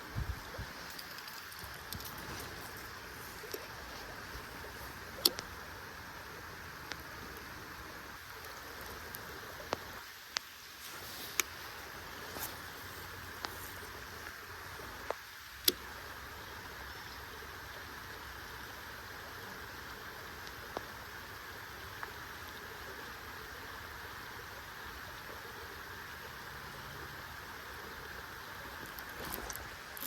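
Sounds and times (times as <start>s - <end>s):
rain hissing: 0.0s - 30.0s.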